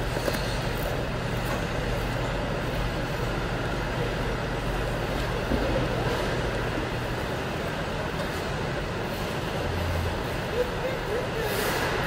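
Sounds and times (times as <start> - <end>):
machinery hum and rushing air: 0.0 - 12.0.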